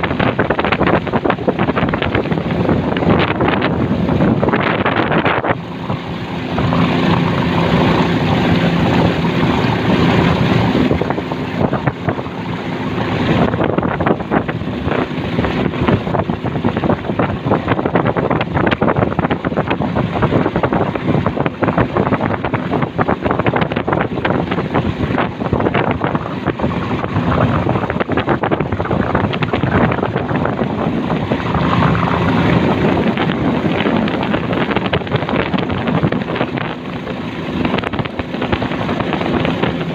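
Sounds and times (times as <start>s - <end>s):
motorboat engine running: 0.0s - 39.9s
wind buffeting microphone: 0.0s - 39.9s.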